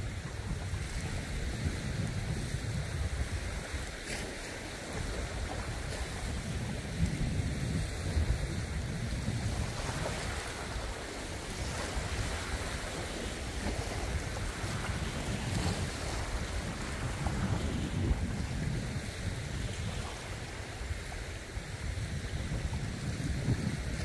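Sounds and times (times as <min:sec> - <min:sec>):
wind gusting across microphone: 0:00.0 - 0:24.0.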